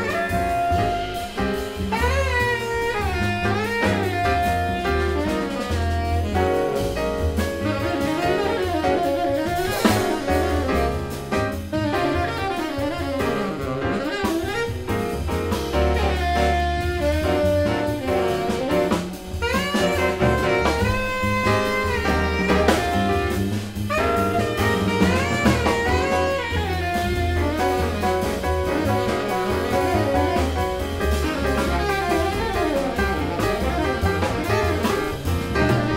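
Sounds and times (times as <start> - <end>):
drum kit: 0.0 - 35.9
plucked double bass: 0.0 - 35.9
tenor saxophone soloing: 0.0 - 35.9.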